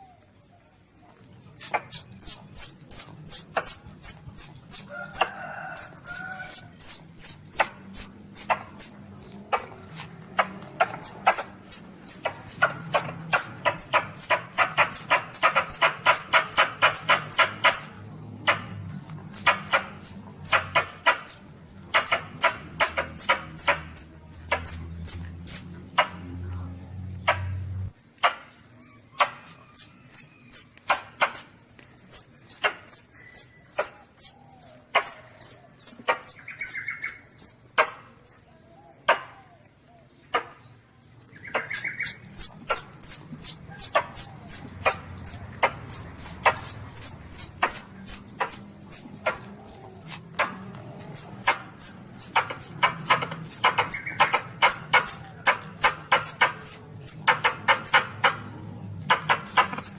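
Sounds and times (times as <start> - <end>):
animal squeaking distress calls: 1.6 - 18.6, 19.3 - 25.7, 29.4 - 38.4, 41.6 - 58.4.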